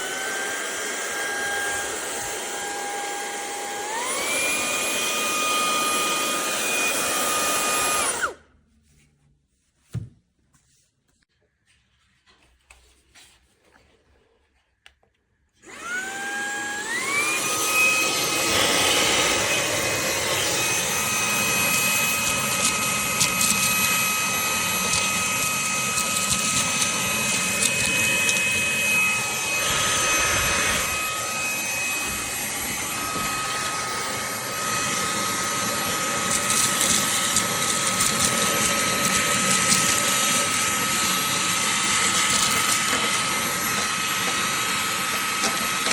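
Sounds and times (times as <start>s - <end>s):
vacuum motor whine: 0.0s - 8.5s, 15.6s - 45.9s.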